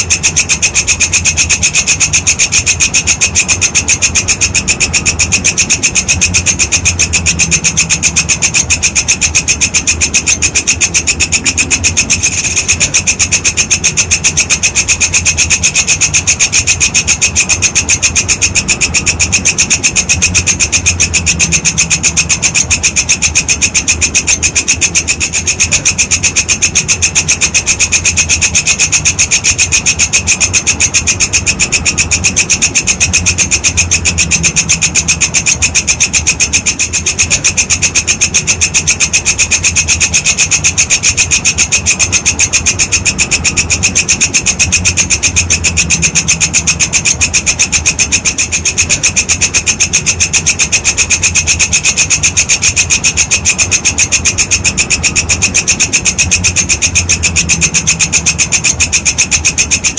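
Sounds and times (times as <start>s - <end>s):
grasshopper calling rasping pulses: 0.0s - 59.9s.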